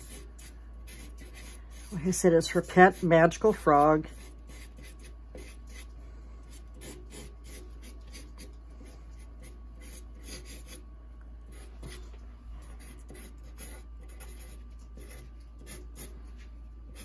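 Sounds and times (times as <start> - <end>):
marker scratching on paper: 0.0 - 5.9, 6.5 - 10.8, 11.5 - 12.0, 12.6 - 16.2.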